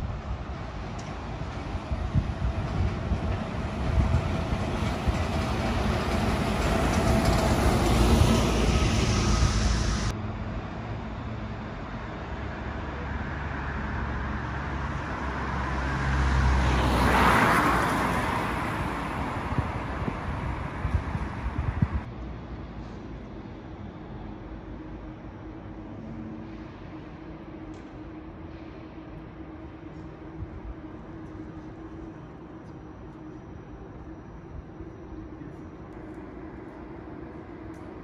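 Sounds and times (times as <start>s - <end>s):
bus passing on wet street: 0.0s - 38.0s.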